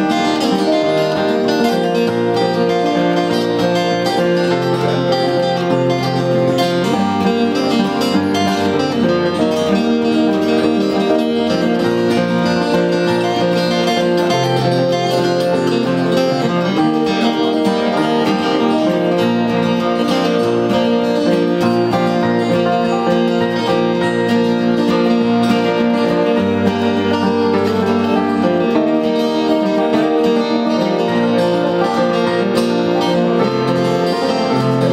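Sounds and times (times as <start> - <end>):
acoustic guitars playing: 0.0 - 34.9.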